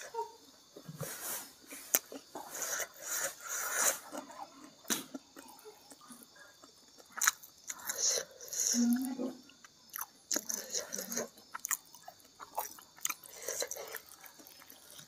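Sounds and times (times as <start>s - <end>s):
person chewing: 1.7s - 15.0s.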